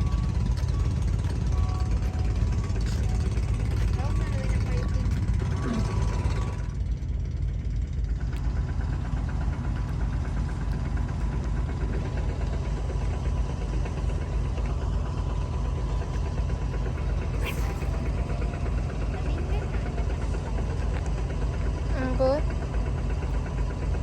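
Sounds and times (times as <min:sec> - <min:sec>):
large diesel engine running: 0:00.0 - 0:24.0.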